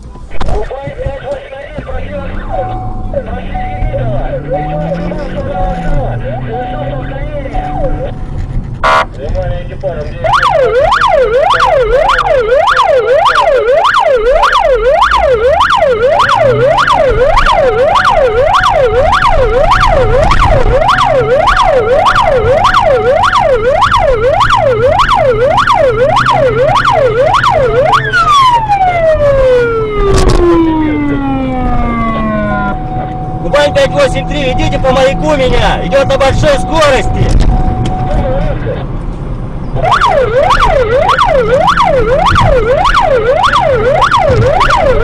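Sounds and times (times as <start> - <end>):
police siren yelping: 1.2 - 9.1, 10.2 - 38.9, 39.7 - 45.0.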